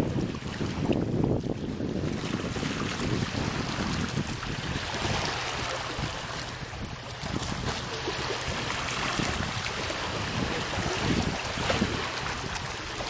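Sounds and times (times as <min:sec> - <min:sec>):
small waves washing against rocks: 0:00.0 - 0:13.0
wind buffeting microphone: 0:00.0 - 0:13.0.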